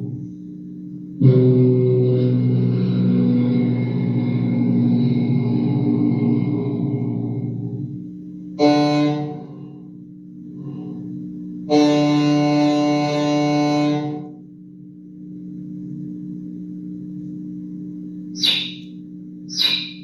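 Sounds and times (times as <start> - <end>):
steady background drone: 0.0 - 20.0.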